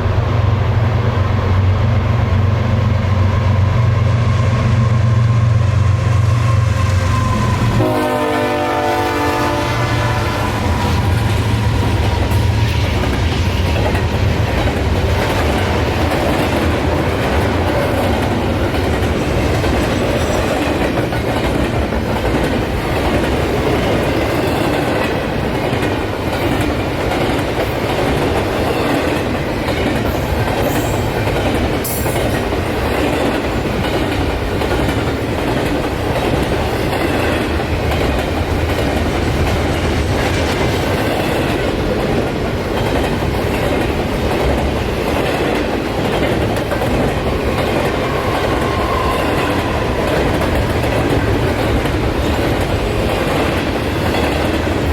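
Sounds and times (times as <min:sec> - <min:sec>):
train wheels clattering on rails: 0:06.0 - 0:54.9.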